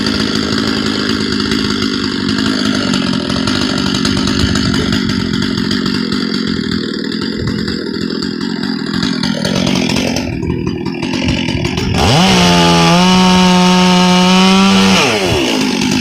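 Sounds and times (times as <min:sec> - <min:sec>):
chainsaw cutting firewood: 0:00.0 - 0:16.0.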